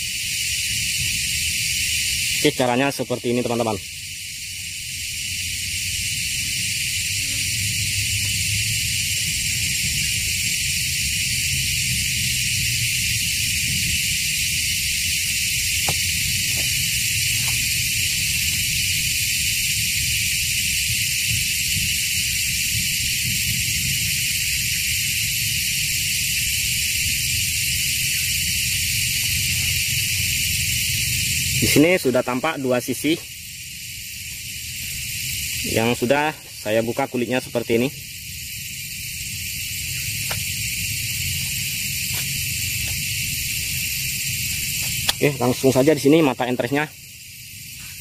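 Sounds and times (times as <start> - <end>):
insect chorus hiss: 0.0 - 48.0.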